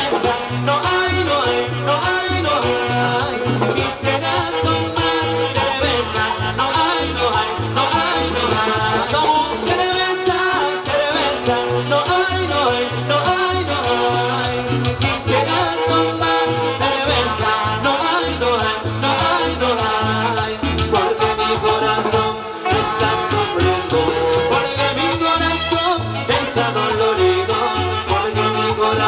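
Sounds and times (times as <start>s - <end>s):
live band playing dance music: 0.0s - 29.0s
person singing: 0.0s - 29.0s
pulsing bass line: 0.0s - 29.0s.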